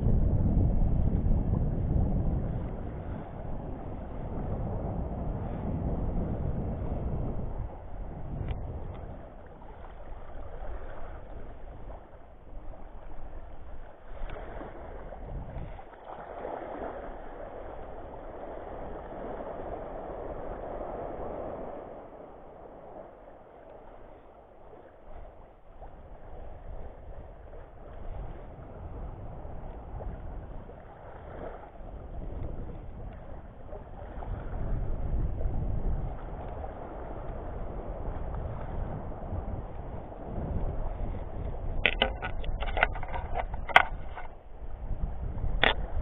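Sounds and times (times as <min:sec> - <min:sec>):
wind on microphone: 0:00.0 - 0:46.0
small waves lapping: 0:02.4 - 0:46.0.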